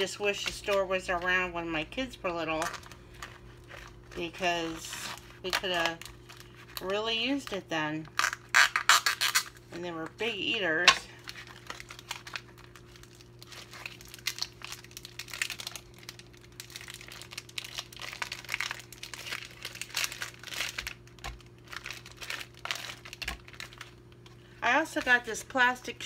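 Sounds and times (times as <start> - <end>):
faint steady hum: 0.0 - 26.0
plastic packaging crinkling and tearing: 2.2 - 25.5.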